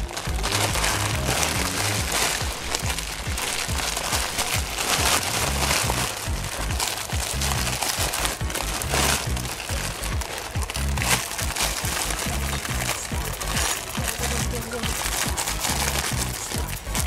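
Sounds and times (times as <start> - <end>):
background music with bass line: 0.0 - 17.0
plastic bag crinkling: 0.0 - 17.0.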